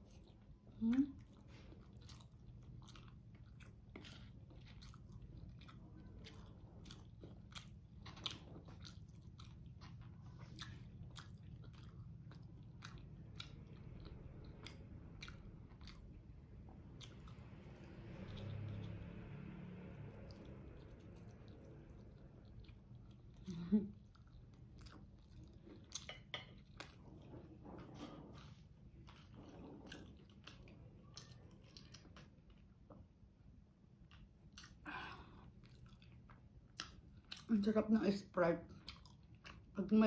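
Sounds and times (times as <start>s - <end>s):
chewing crunchy food: 0.0s - 38.0s, 38.6s - 40.0s.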